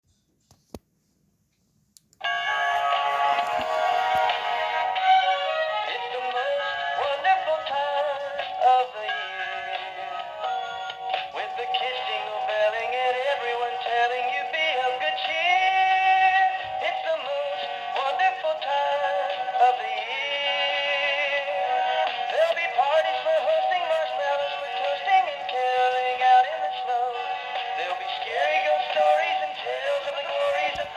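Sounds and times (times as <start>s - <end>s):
toy playing song through small speaker: 2.2s - 30.9s.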